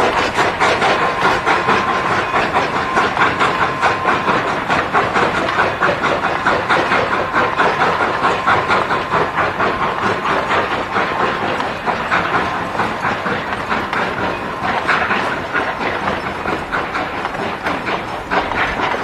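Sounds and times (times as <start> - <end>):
steam hissing: 0.0 - 19.0
train cars clattering on rail joints: 0.0 - 19.0
faint steady squeal: 0.2 - 18.8.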